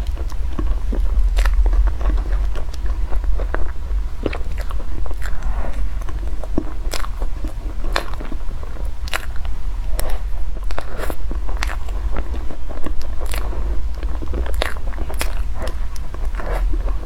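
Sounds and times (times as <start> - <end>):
crunchy crackles: 0.0 - 17.0
low hum: 0.0 - 17.0
person chewing food: 0.0 - 17.0.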